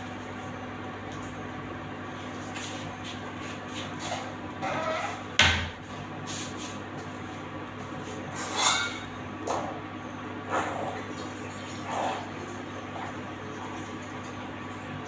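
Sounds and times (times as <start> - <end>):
induction cooktop humming: 0.0 - 15.0.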